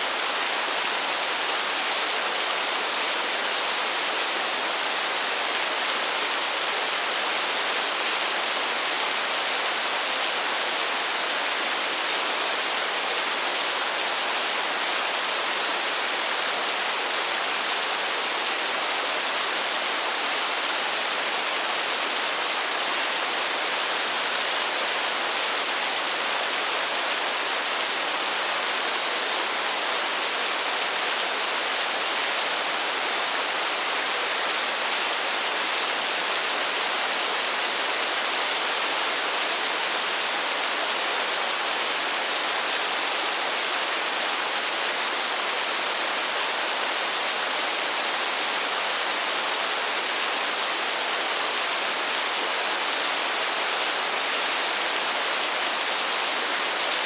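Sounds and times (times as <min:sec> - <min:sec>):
steady rain in a forest: 0:00.0 - 0:57.0.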